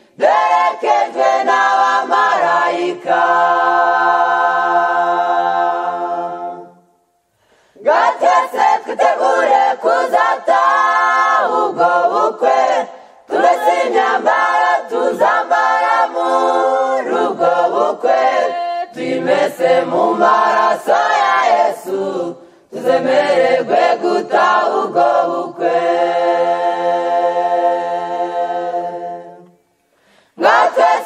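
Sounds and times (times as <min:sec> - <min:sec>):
a cappella choir singing: 0:00.0 - 0:31.0.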